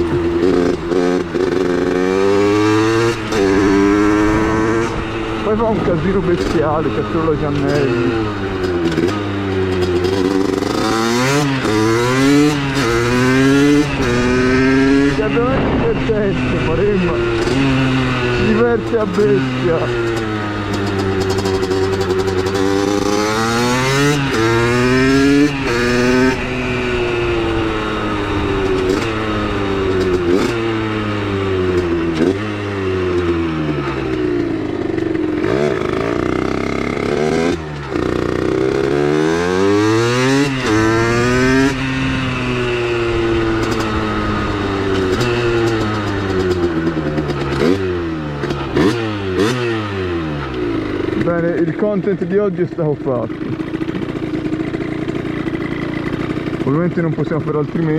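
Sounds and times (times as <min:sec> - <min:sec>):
two-stroke motorcycle accelerating: 0:00.0 - 0:57.9.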